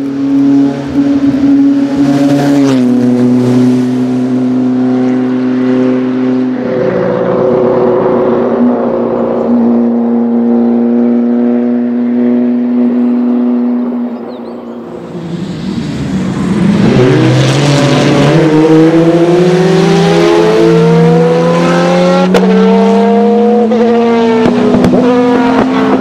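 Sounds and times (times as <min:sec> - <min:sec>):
racing engine running loud: 0:00.0 - 0:26.0.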